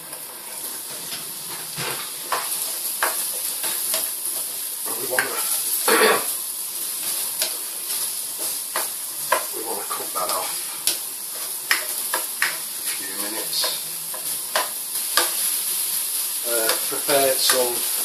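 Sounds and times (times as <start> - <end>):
onion sizzling in oil: 0.0 - 18.0
spatula scraping a pan: 0.4 - 17.7.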